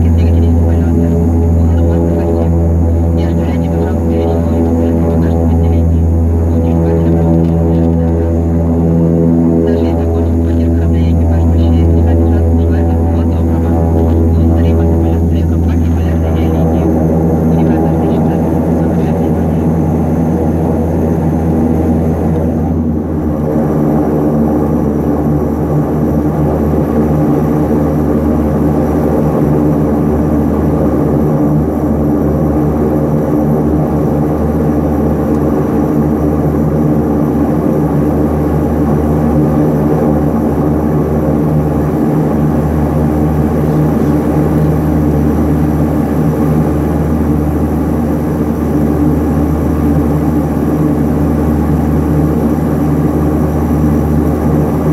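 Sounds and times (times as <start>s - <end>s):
turboprop engines droning in cabin: 0.0s - 54.9s.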